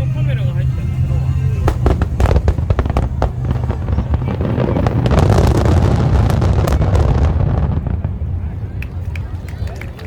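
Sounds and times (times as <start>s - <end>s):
low booming rumble: 0.0s - 10.0s
fireworks cracking: 1.6s - 10.0s.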